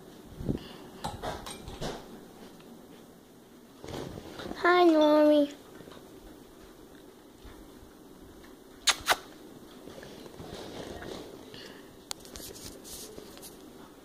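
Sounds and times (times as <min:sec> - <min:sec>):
rustling room noise: 0:00.0 - 0:14.0.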